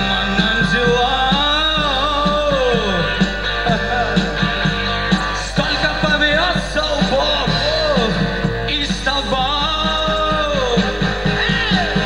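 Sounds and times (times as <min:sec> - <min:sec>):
lead guitar line bending down: 0:00.0 - 0:12.0
rock band playing live: 0:00.0 - 0:12.0.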